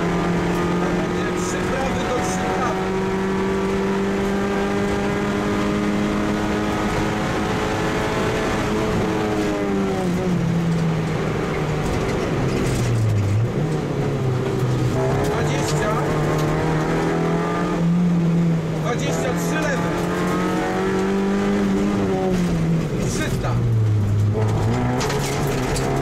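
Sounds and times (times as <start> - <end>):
rally car engine at high revs: 0.0 - 26.0.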